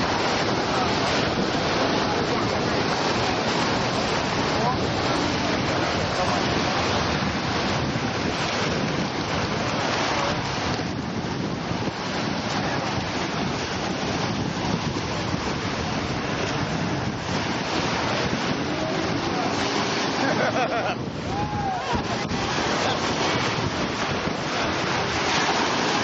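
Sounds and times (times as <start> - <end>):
small waves breaking: 0.0 - 26.0
wind buffeting microphone: 0.0 - 26.0.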